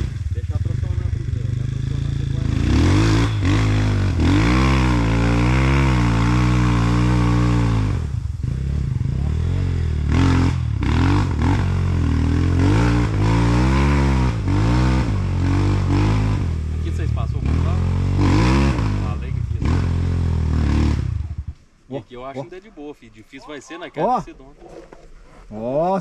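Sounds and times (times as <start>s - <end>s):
motorcycle engine revving: 0.0s - 21.7s.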